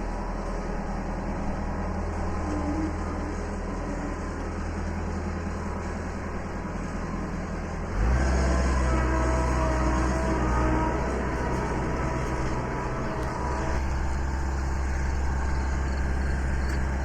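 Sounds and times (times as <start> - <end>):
large engine droning: 0.0 - 17.0.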